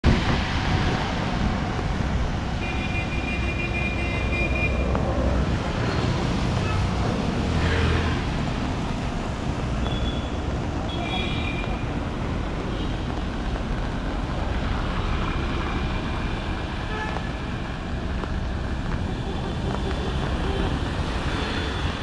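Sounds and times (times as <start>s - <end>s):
traffic on wet roads: 0.0s - 22.0s
vehicle engine rumble: 0.0s - 22.0s.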